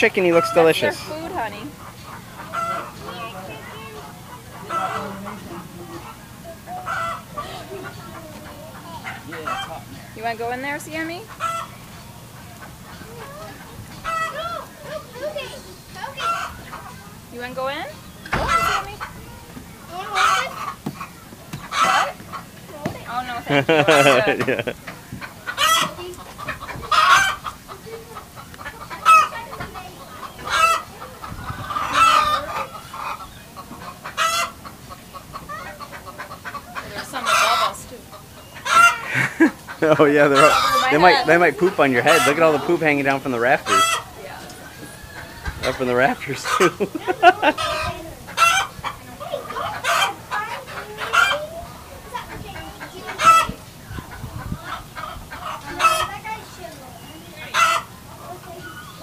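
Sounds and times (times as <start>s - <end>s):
chickens clucking and squawking: 0.0s - 59.0s.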